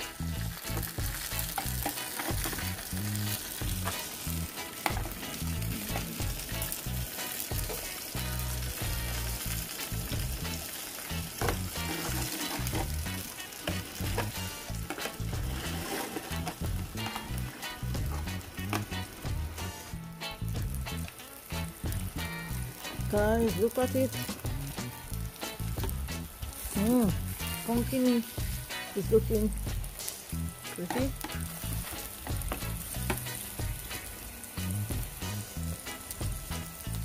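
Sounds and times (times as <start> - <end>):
meat sizzling and crackling: 0.0 - 37.0.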